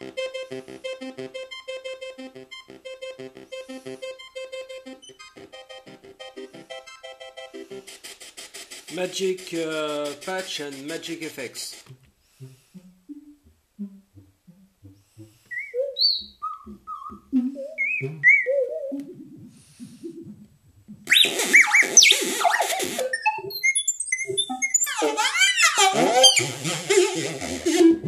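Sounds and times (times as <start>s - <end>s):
synthesizer electronic notes: 0.0s - 7.9s, 12.8s - 28.0s.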